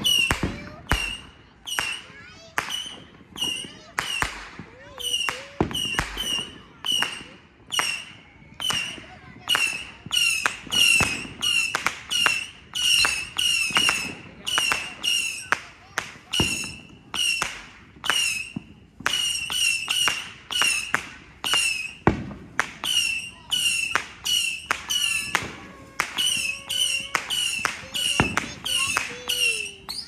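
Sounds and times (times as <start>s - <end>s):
falling firework whistle: 0.0s - 30.0s
firework cracks: 0.0s - 30.0s.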